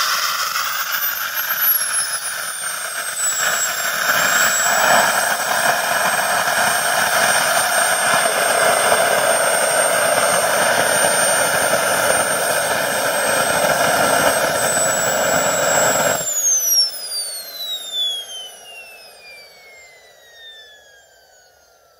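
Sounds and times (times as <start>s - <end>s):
model jet turbine whine and roar: 0.0s - 21.9s.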